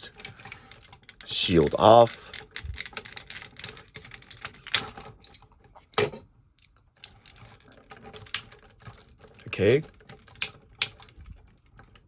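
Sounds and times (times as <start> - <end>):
plastic toy parts clattering: 0.0 - 6.2, 7.0 - 12.0.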